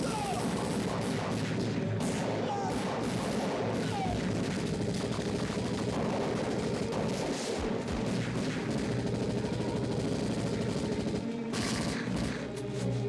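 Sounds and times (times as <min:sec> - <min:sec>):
automatic rifle gunfire: 0:00.0 - 0:12.6.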